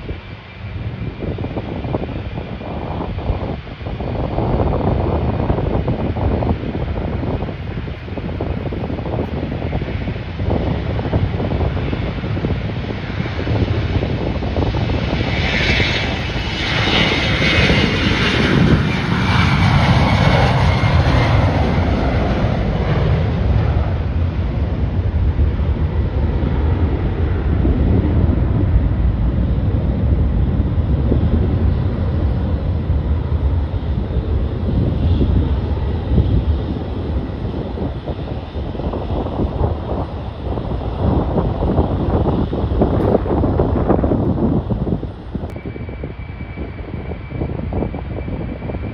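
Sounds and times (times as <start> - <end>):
airliner engine whine passing: 0.0 - 48.9
low rumble: 0.0 - 48.9.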